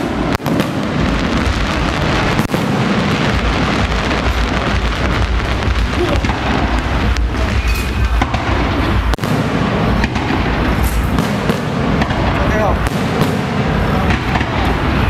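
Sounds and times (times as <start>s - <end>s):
deep rumble: 0.0s - 15.0s
fireworks booming and crackling: 0.0s - 15.0s.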